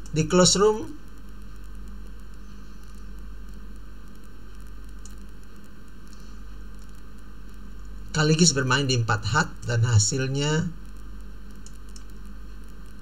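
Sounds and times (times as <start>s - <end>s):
background hiss: 0.0s - 13.0s
low electrical hum: 0.0s - 13.0s.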